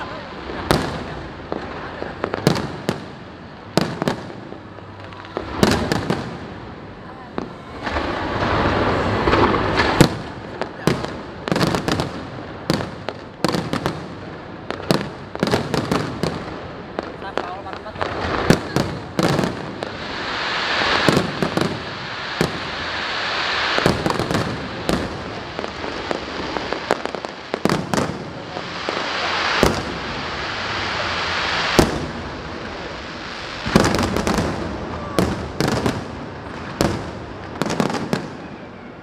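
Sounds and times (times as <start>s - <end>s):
crackling hiss of fireworks: 0.0s - 39.0s.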